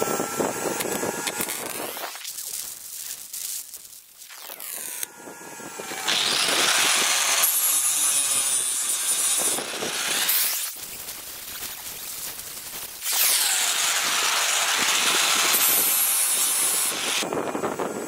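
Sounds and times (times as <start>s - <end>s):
angle grinder grinding metal: 0.0s - 10.8s, 13.0s - 18.0s.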